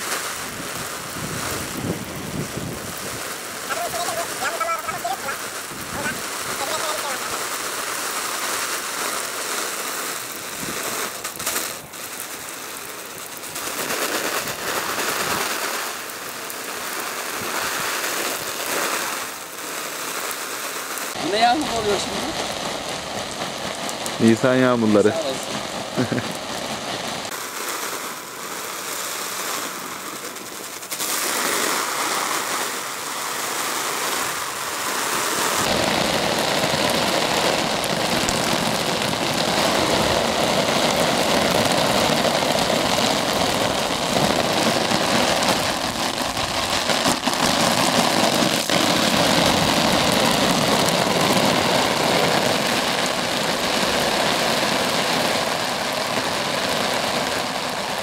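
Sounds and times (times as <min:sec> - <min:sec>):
hose spray pattering on tent fabric: 0:00.0 - 0:58.0.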